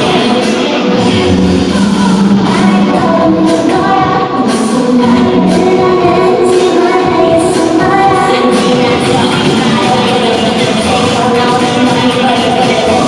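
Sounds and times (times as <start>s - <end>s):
live band music with singer: 0.0s - 13.0s.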